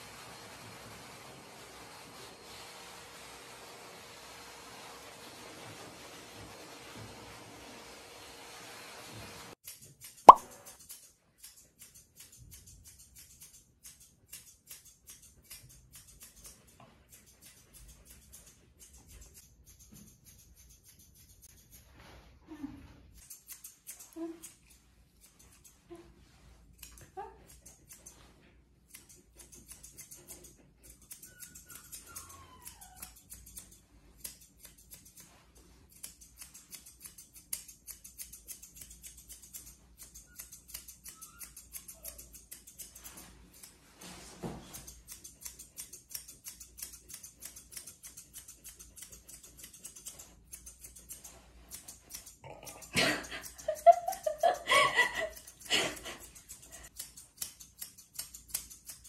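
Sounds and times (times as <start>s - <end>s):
scissors snipping dog fur: 9.5s - 22.0s, 23.1s - 59.0s.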